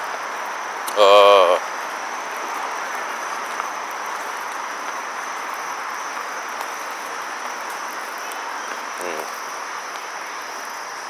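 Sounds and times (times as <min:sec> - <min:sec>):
crickets chirping drone: 0:00.0 - 0:11.0
outdoor background hiss: 0:00.0 - 0:11.0.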